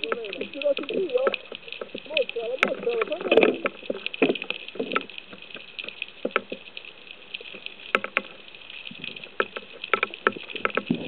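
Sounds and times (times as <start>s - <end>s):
crackling hiss: 0.0s - 11.0s
underwater clicks and knocks: 0.0s - 11.0s.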